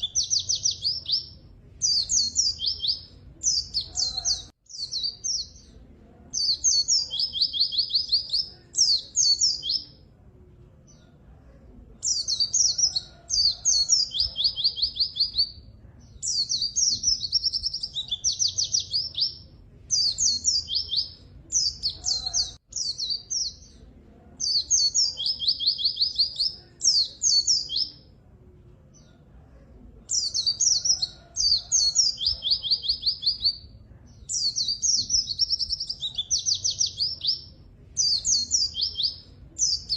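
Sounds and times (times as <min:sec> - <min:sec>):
bird chirping and trilling: 0:00.0 - 0:10.0, 0:12.0 - 0:23.8, 0:24.4 - 0:28.1, 0:30.1 - 0:39.9.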